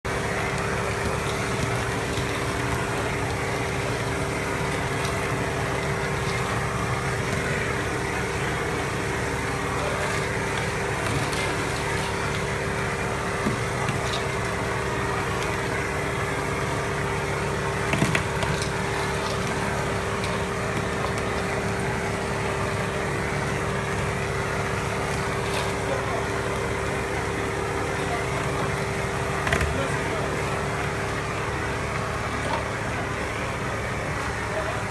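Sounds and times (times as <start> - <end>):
motor humming: 0.1 - 34.9.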